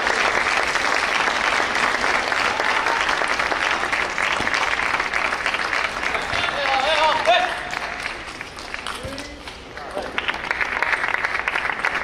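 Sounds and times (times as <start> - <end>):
spectators clapping: 0.0 - 12.0.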